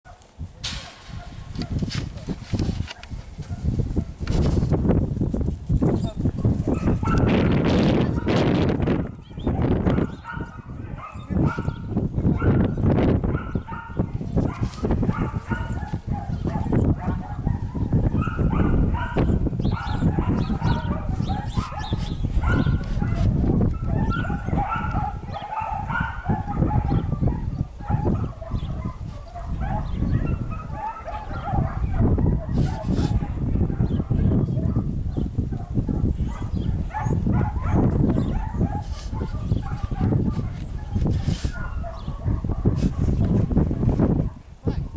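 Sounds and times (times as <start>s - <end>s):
wind rumbling on microphone: 0.1s - 44.9s
dog barking and yipping: 0.8s - 4.2s, 6.6s - 7.4s, 9.1s - 44.4s.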